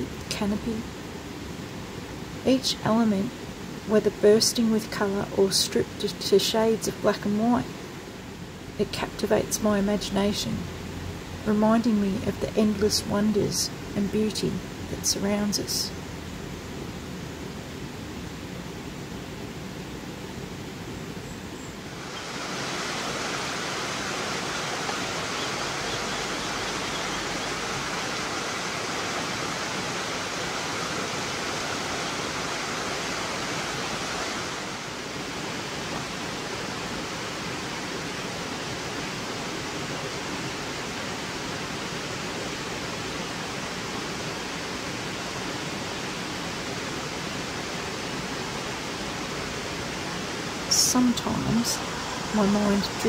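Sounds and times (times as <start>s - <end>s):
creek water running over rocks: 0.0s - 53.0s.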